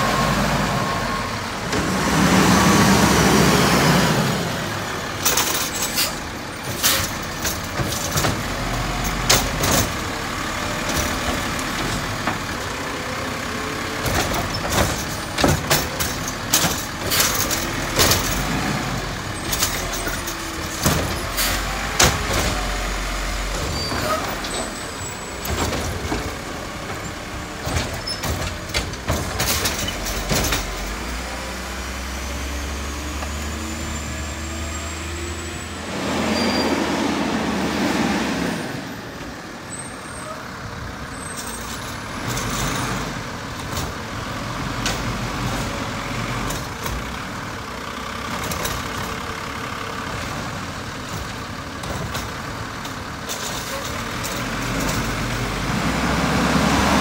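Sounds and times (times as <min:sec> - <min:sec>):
diesel garbage truck running: 0:00.0 - 0:57.0.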